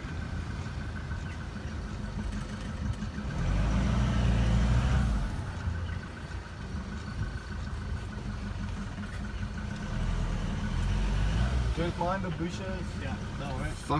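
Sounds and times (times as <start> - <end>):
vehicle engine revving: 1.8 - 13.9.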